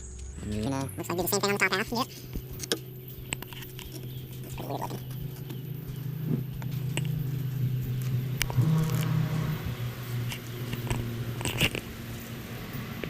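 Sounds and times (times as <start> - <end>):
air conditioner hum: 0.0 - 13.0.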